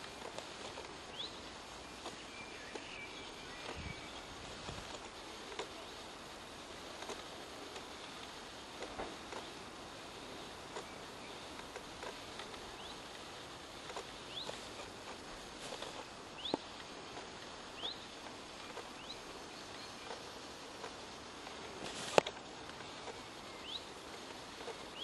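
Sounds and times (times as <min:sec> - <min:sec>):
faint clicks: 0:00.0 - 0:01.4, 0:02.0 - 0:25.0
small bird chirping: 0:00.0 - 0:06.2, 0:06.8 - 0:25.0
steady outdoor hiss: 0:00.0 - 0:25.0.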